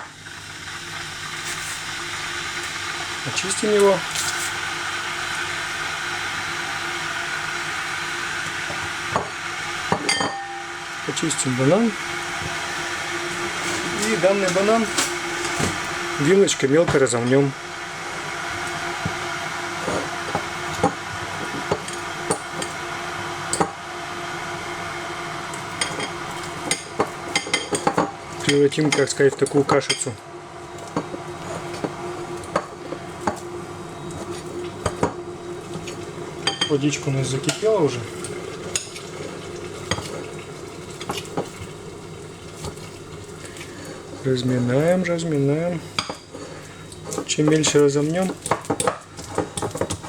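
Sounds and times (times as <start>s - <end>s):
electric kettle hissing: 0.0s - 50.0s.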